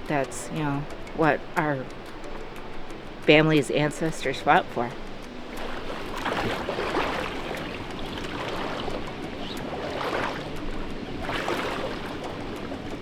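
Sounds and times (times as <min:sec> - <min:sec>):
stream water rushing and splashing: 0:00.0 - 0:13.0.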